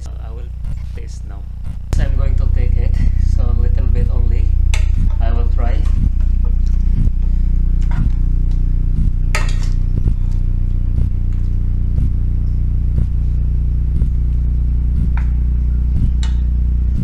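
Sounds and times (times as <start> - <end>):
faint ticking: 0.0 - 9.3, 9.9 - 17.0
low machine hum: 0.0 - 17.0.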